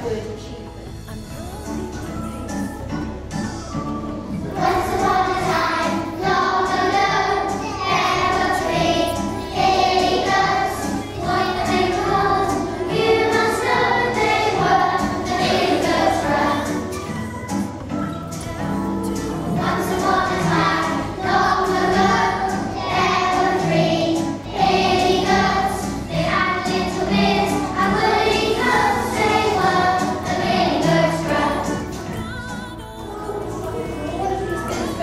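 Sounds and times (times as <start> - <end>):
children singing: 1.5 - 35.0.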